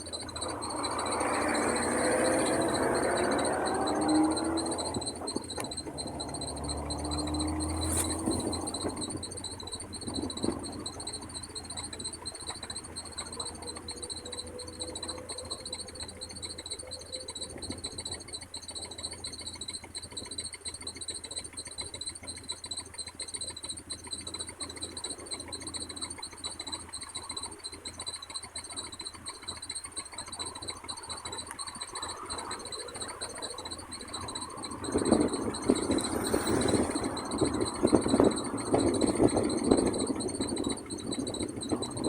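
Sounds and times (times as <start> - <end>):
crossing warning bell ringing: 0.0 - 20.9, 21.9 - 42.0.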